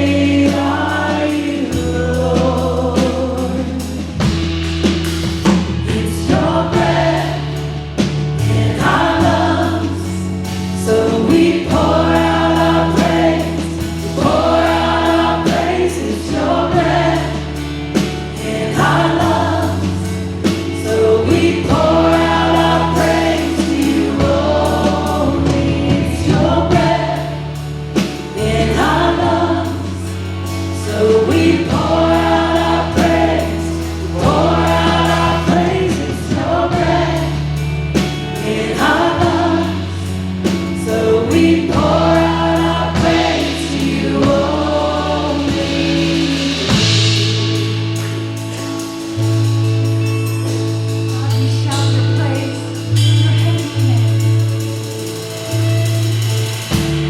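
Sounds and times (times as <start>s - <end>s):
singers singing: 0.0s - 4.5s, 5.4s - 49.3s
bass chords: 0.0s - 57.0s
keyboard chords: 0.0s - 57.0s
worship band playing: 0.0s - 57.0s.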